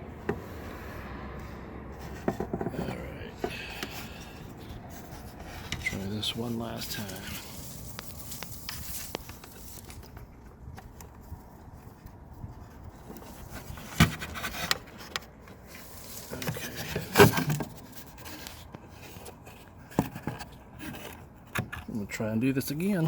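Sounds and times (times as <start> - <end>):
scraping and rubbing of wiring: 1.9 - 21.9.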